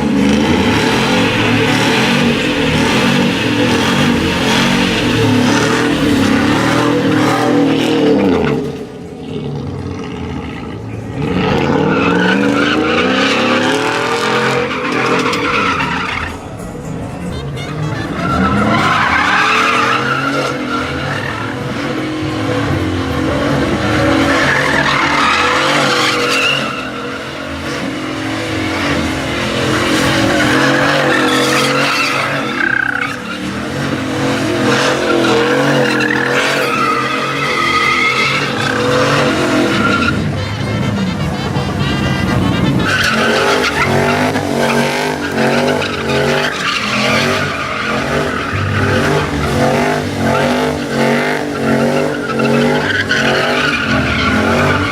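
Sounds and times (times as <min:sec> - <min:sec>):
truck engine revving: 0:00.0 - 0:54.9
tyres squealing: 0:10.9 - 0:54.9.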